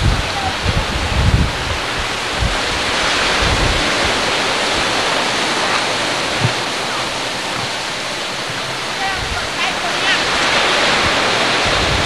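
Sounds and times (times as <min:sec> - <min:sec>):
choppy sea: 0:00.0 - 0:12.0
wind blowing across microphone: 0:00.0 - 0:12.0.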